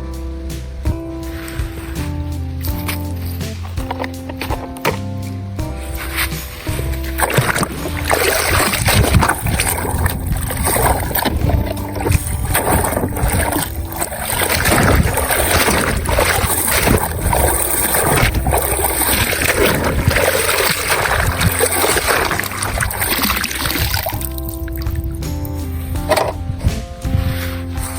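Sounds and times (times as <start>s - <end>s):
background music: 0.0s - 27.9s
water splashing and sloshing: 0.9s - 27.9s.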